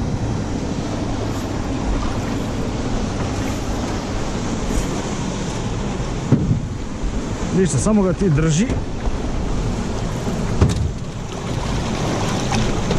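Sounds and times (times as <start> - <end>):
water sloshing: 0.0 - 7.5, 8.1 - 12.9.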